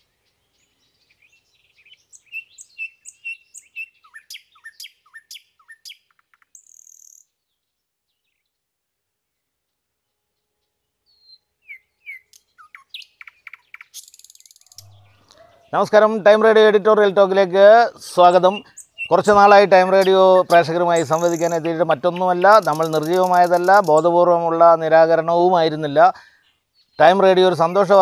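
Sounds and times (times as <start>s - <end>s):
small songbirds chirping: 0.0s - 28.0s.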